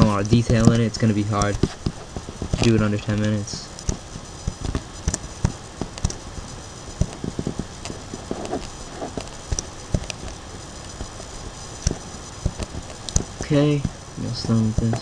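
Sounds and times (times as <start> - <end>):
faint microphone hiss: 0.0 - 15.0.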